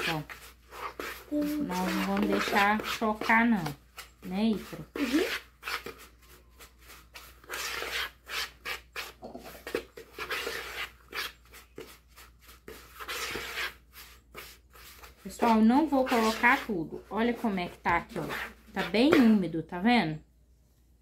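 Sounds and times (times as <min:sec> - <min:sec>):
hands scraping dough in plastic bowl: 0:00.0 - 0:19.6.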